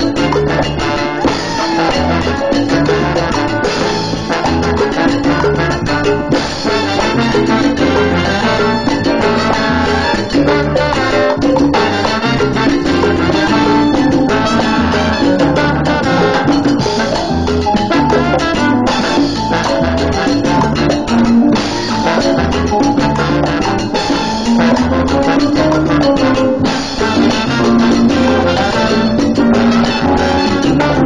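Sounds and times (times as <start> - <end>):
congas: 0.0 - 31.0
electric bass line: 0.0 - 31.0
live salsa band playing: 0.0 - 31.0.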